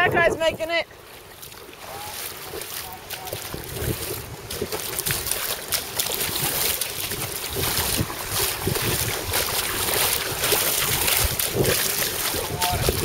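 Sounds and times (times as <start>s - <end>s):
footsteps splashing through water: 0.0s - 13.0s
wind buffeting microphone: 0.0s - 13.0s.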